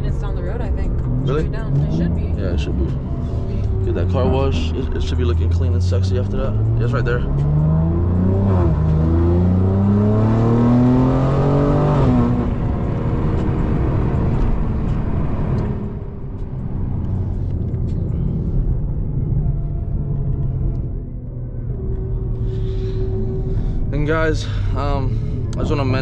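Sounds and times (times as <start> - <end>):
car engine accelerating: 0.0 - 26.0
road noise: 0.0 - 26.0.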